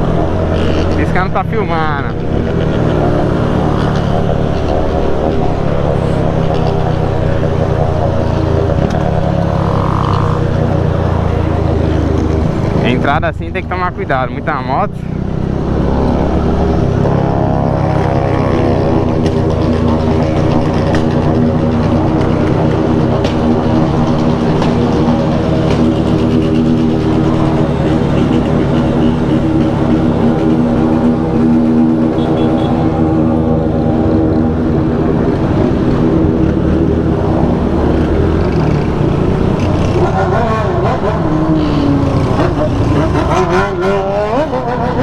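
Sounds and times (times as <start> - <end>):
group of motorcycle engines: 0.0 - 45.0.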